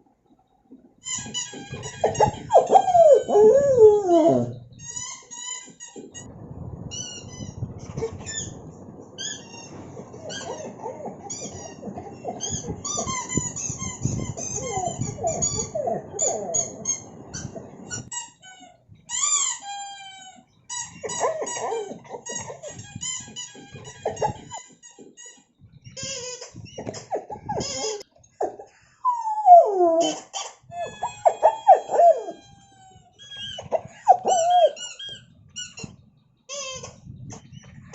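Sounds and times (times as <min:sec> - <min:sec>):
squeaky dog toy: 0:01.0 - 0:06.3, 0:09.2 - 0:37.2
puppy whining: 0:01.1 - 0:06.3, 0:07.0 - 0:24.7, 0:26.0 - 0:37.8.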